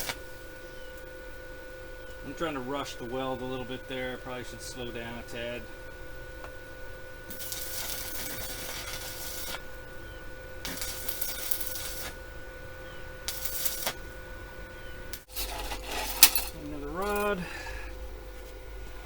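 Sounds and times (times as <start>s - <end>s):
welding arc crackling and sizzling: 0.0s - 19.0s.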